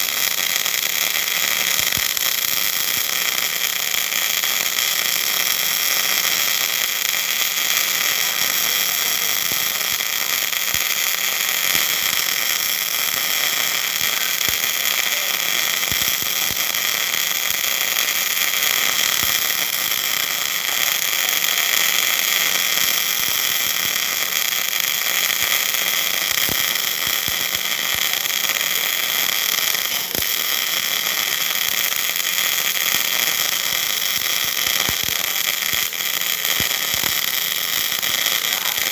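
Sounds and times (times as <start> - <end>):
welding arc sizzling and crackling: 0.0 - 38.9.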